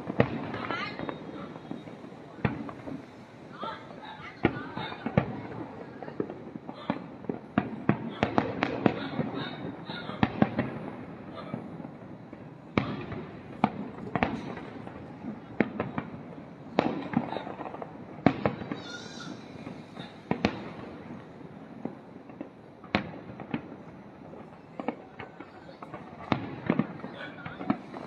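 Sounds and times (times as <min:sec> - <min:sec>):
firework fizz: 0:00.0 - 0:28.0
fireworks bangs: 0:00.0 - 0:28.0
fireworks crackle: 0:00.0 - 0:28.0.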